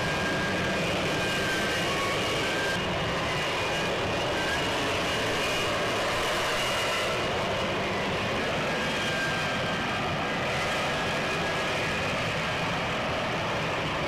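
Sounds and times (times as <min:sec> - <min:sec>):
jet engine hovering: 0:00.0 - 0:14.0.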